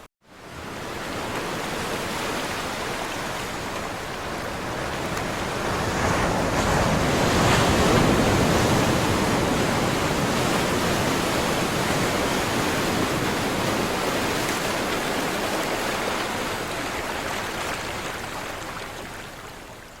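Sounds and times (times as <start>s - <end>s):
waves breaking: 0.4s - 20.0s.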